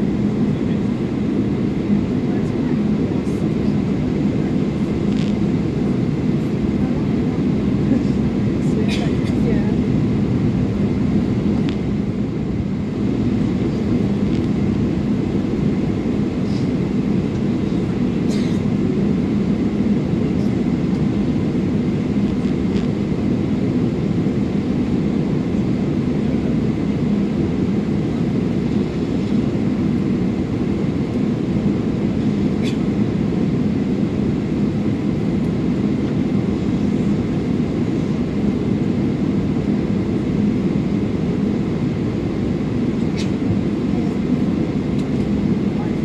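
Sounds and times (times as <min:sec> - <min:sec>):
aircraft cabin engine rumble: 0:00.0 - 0:46.0.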